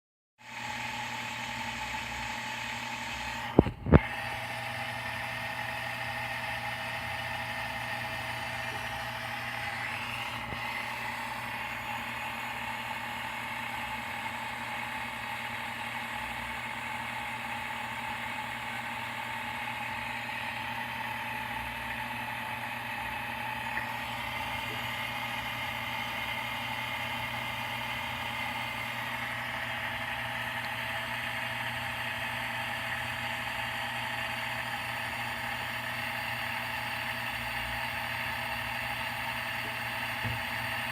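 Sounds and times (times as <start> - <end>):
water filter humming: 0.4 - 40.9.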